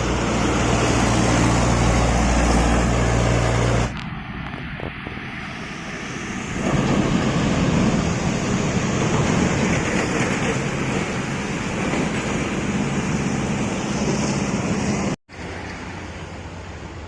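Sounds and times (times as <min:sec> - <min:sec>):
heavy vehicle traffic drone: 0:00.0 - 0:17.0.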